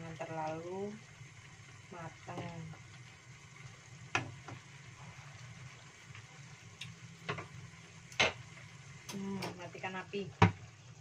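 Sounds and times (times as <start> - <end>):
faint stove hum: 0.0 - 11.0.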